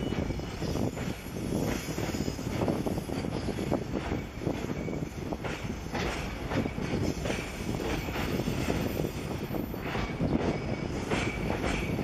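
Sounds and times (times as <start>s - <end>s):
train rumbling on steel bridge: 0.0s - 12.0s
train wheel clacks: 0.0s - 12.0s.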